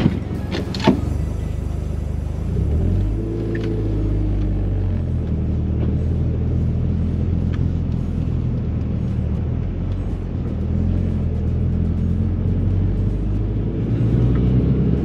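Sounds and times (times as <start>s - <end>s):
car engine low drone: 0.0s - 15.0s.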